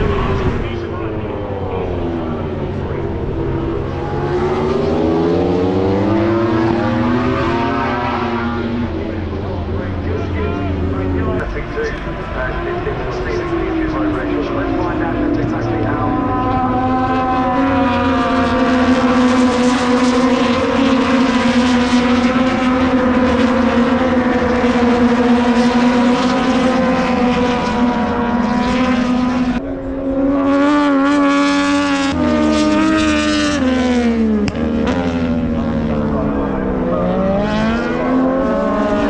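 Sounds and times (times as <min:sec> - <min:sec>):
racing motorcycle engine revving: 0:00.0 - 0:39.0.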